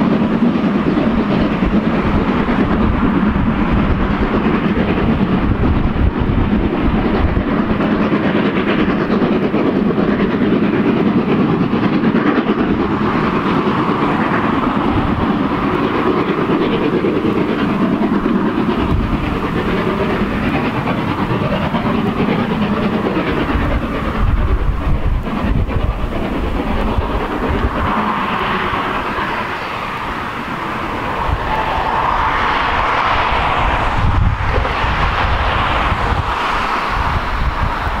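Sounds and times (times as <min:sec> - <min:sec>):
steam train running on track: 0:00.0 - 0:38.0.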